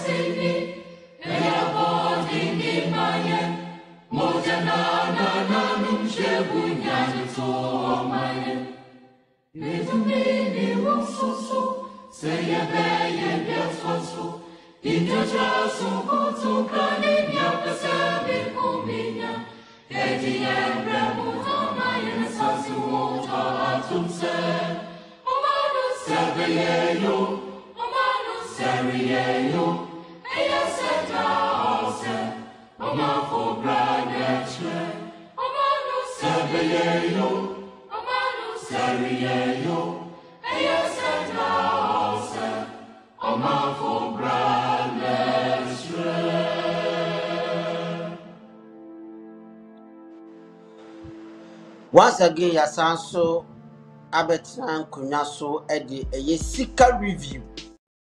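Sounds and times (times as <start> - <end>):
choir singing: 0.0 - 48.7, 50.3 - 53.5.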